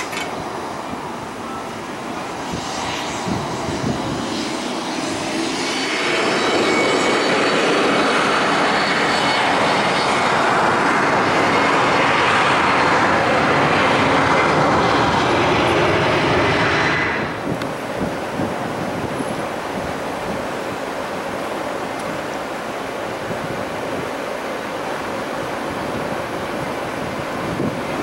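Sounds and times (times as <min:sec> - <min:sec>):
jet passing low with whine: 0:00.0 - 0:28.0
jet taking off: 0:00.0 - 0:28.0.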